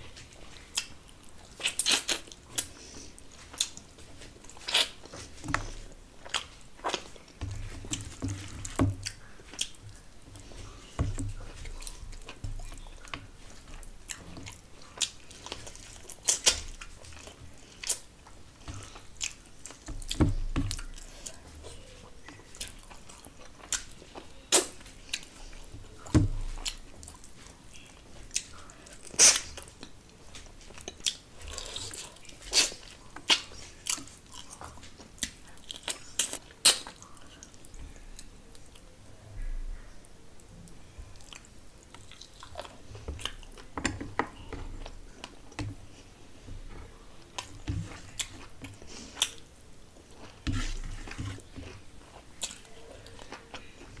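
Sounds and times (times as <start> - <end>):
chewing with wet mouth smacks: 0.1 - 38.9, 40.9 - 54.0.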